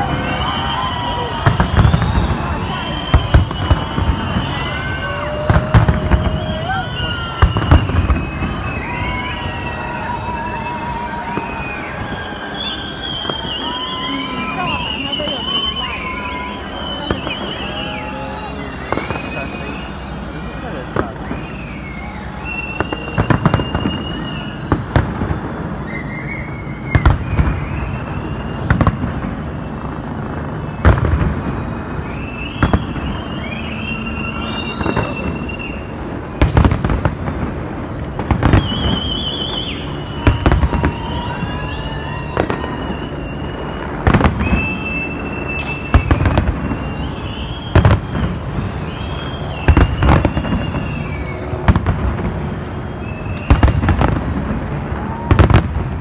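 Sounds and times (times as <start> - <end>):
distant explosions rumbling: 0.0 - 56.0
fireworks sharp bangs: 0.0 - 56.0
fireworks whistling: 0.0 - 56.0.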